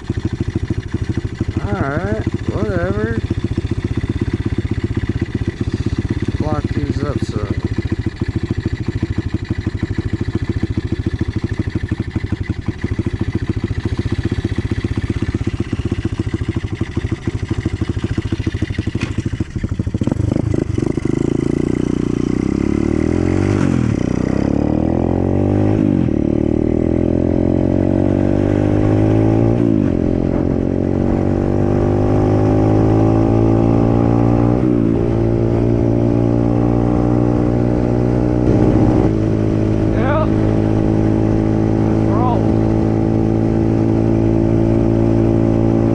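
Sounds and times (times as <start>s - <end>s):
dirt bike engine accelerating: 0.0s - 45.9s.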